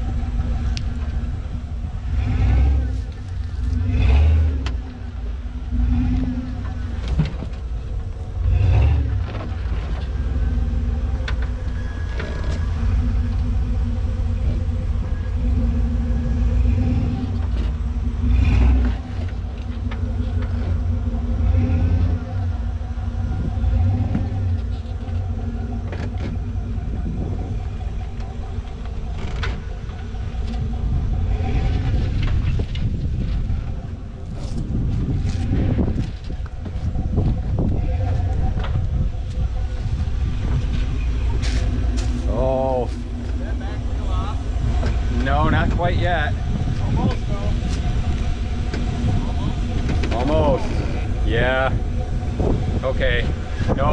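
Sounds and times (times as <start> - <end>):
engine running at low revs: 0.0 - 53.9.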